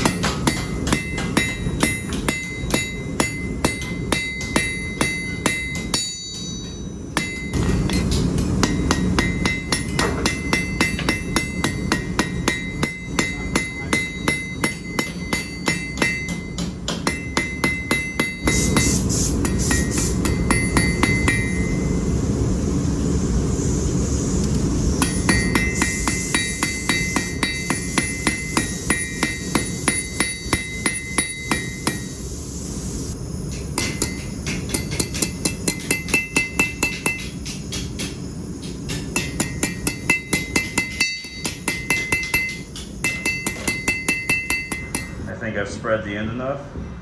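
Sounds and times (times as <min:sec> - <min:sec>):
hammer striking metal on anvil: 0:00.0 - 0:22.0, 0:25.0 - 0:32.4, 0:33.4 - 0:45.3.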